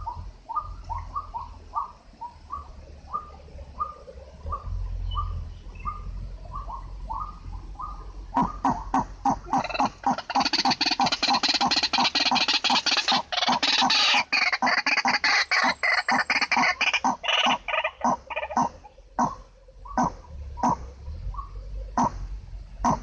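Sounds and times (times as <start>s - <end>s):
waterhens croaking calls: 0.0s - 23.0s.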